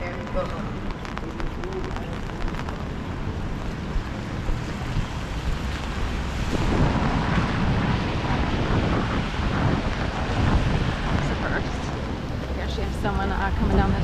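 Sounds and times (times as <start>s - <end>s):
city street noise: 0.0s - 14.0s
steady rain: 0.0s - 14.0s
wind rumbling on microphone: 0.0s - 14.0s.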